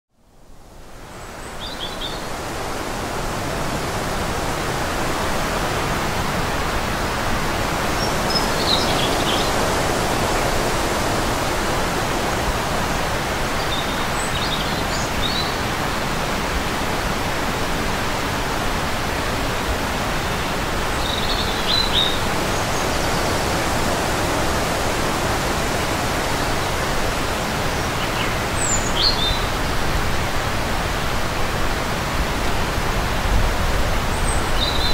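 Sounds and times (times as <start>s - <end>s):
steady rushing noise: 2.2s - 34.9s.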